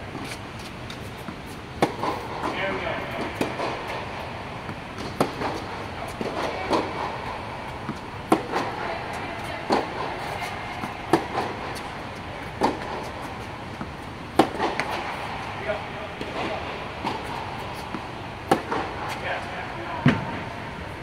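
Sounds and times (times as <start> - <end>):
steady background noise: 0.0 - 21.0
tennis ball hit by racket: 0.2 - 15.5, 16.2 - 19.2.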